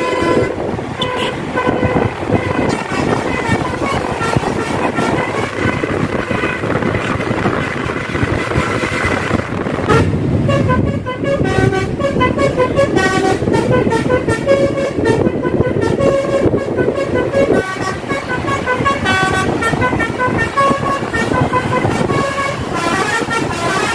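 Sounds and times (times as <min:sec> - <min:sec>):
bus horn playing a tune: 0:00.0 - 0:23.9
road noise: 0:00.0 - 0:23.9.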